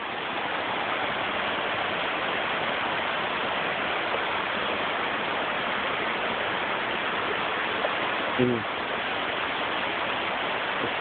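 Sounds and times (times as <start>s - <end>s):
water rushing down rock slab: 0.0s - 11.0s.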